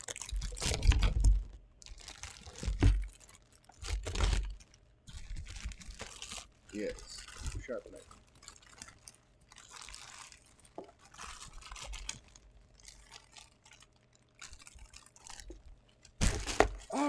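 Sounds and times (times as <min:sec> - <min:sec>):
packaging scraping and crackling: 0:00.0 - 0:17.0.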